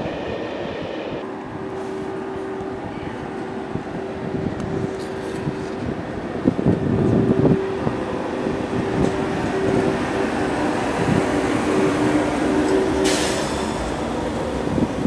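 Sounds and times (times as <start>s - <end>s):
train hum: 0.0s - 15.0s
wheels rumbling on rail: 0.0s - 15.0s.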